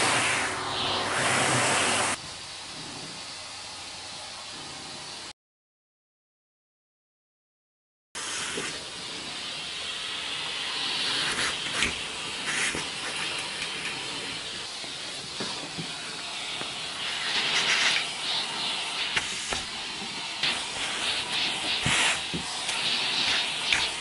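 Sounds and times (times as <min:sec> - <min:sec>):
vacuum cleaner hissing: 0:00.0 - 0:05.3, 0:08.2 - 0:24.0.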